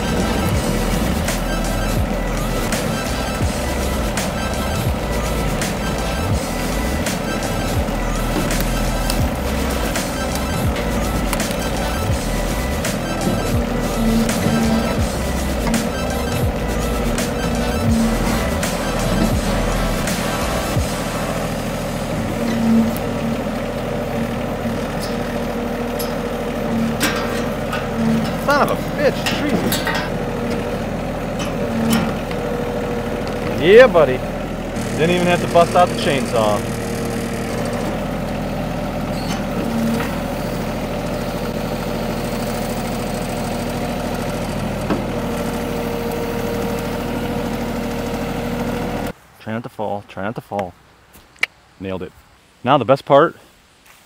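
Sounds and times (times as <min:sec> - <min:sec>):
diesel engine running: 0:00.0 - 0:49.2
excavator bucket digging: 0:00.0 - 0:49.2.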